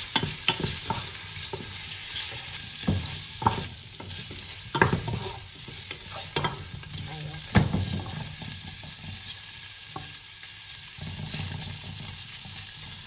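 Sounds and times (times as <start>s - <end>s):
wooden spatula scraping and knocking pan: 0.0s - 9.4s, 11.0s - 13.0s
shrimp sizzling in a pan: 0.0s - 13.0s.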